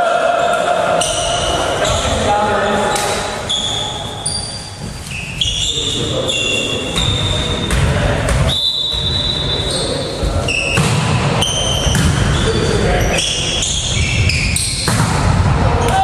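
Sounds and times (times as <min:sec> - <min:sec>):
shoe squeaks: 0:01.0 - 0:07.8, 0:08.4 - 0:14.9.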